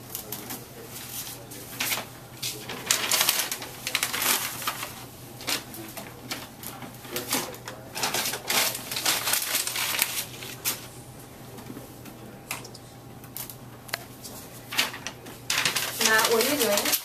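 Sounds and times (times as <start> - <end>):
paper rustling: 0.1 - 11.0, 14.2 - 17.0.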